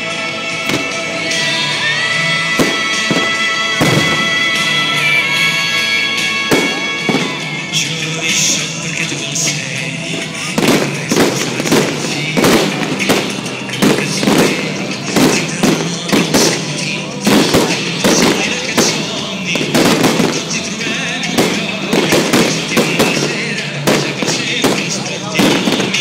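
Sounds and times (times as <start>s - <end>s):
music playing: 0.0s - 26.0s
fireworks bursting with sharp bangs: 0.5s - 5.4s, 6.2s - 26.0s.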